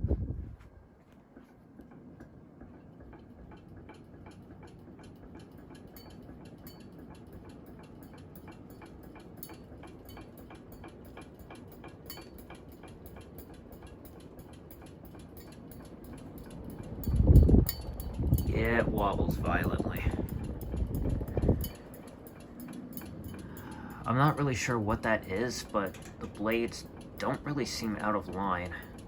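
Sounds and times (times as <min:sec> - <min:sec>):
hum of moving air: 0:00.0 - 0:29.0
ceiling fan ticking: 0:01.2 - 0:29.0.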